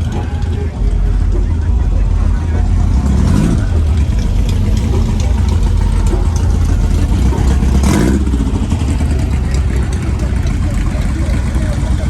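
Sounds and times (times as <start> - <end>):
car engine rumbling: 0.0 - 12.0
engine rev: 0.0 - 12.0.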